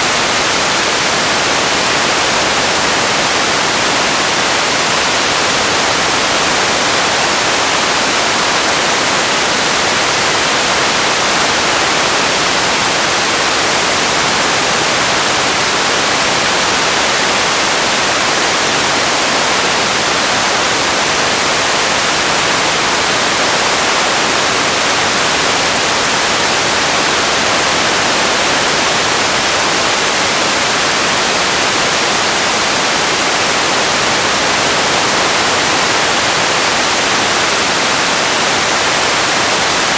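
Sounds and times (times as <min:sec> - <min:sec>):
static-like hiss: 0:00.0 - 0:39.9.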